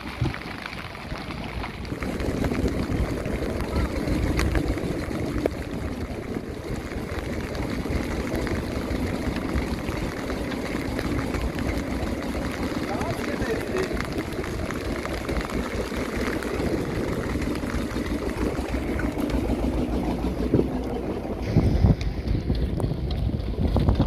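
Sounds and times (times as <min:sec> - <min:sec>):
low rumble: 0:00.0 - 0:24.0
rushing water: 0:00.0 - 0:24.0
wind noise: 0:00.0 - 0:24.0.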